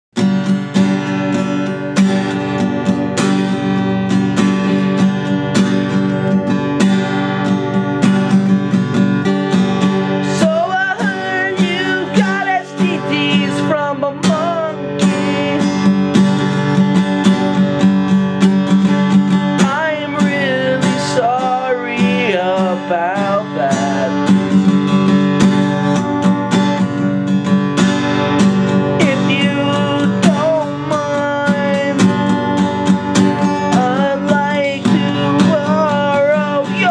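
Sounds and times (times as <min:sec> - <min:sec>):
acoustic guitar strumming: 0:00.1 - 0:36.9.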